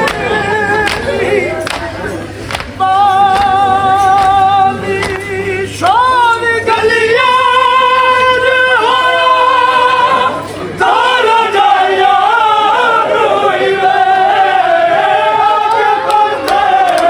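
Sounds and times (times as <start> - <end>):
person singing a lament unaccompanied: 0.0 - 17.0.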